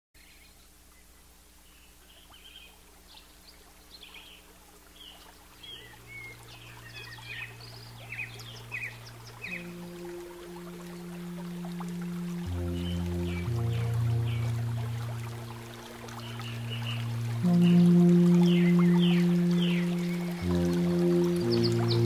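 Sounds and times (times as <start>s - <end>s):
birds chirping: 0.2s - 22.0s
faint steady hiss: 0.2s - 22.0s
low sustained music notes: 0.4s - 22.0s.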